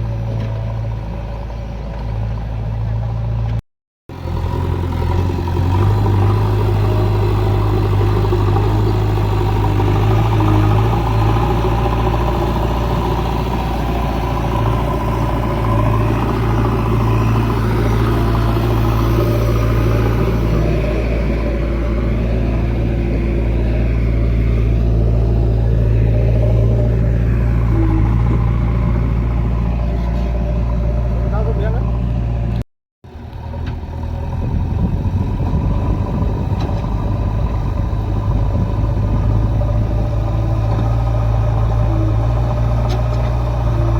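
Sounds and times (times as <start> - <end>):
diesel engine running steadily: 0.0 - 43.9.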